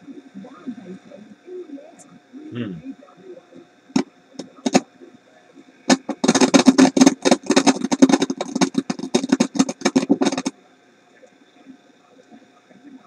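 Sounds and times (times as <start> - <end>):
speaker crackling and popping: 0.0 - 13.0.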